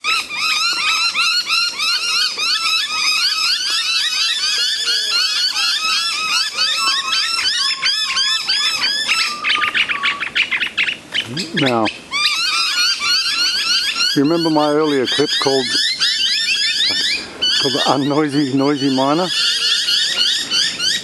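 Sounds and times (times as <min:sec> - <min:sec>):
chorus of bird calls: 0:00.0 - 0:21.0.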